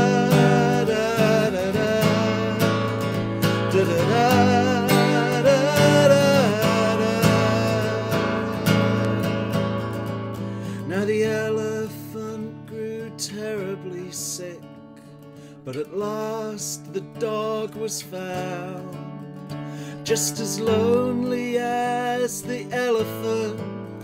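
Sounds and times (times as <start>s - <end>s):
man singing wordless melody: 0.0s - 10.0s, 10.6s - 14.8s, 15.6s - 19.2s, 19.9s - 24.0s
acoustic guitar strumming: 0.0s - 24.0s.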